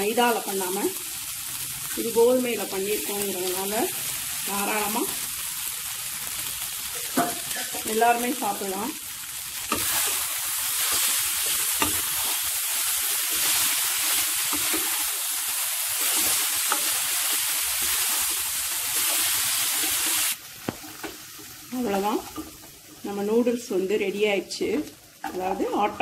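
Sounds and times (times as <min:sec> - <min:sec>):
noodles sizzling in a wok: 0:00.0 - 0:26.0.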